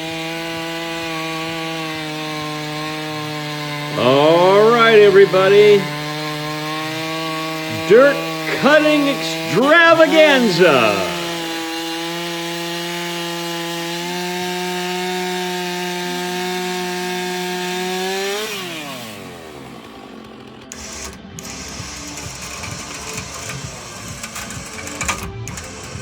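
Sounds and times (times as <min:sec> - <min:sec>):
chainsaw running: 0:00.0 - 0:26.0.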